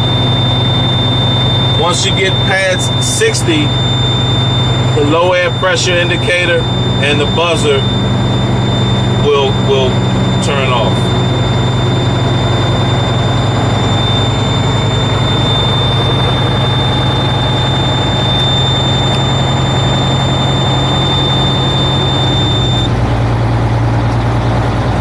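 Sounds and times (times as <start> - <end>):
warning buzzer high tone: 0.0 - 22.9
diesel engine idling: 0.0 - 25.0.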